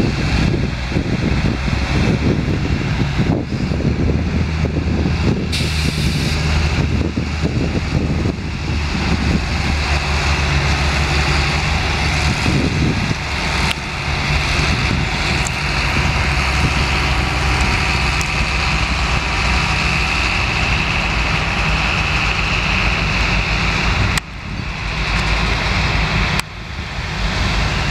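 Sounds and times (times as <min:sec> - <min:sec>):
constant high whine: 0:00.0 - 0:27.9
low engine rumble: 0:00.0 - 0:27.9.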